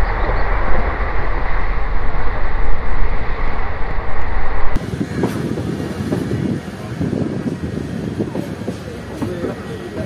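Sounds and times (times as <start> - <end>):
train running on rails: 0.0 - 10.0.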